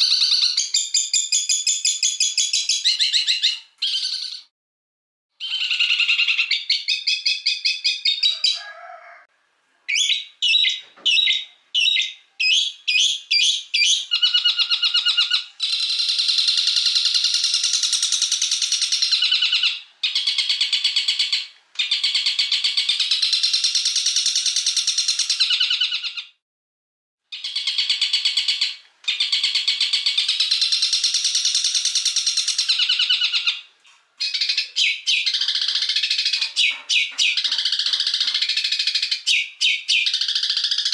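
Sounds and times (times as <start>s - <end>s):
songbird chirps and trills: 5.4s - 26.3s, 27.3s - 40.9s.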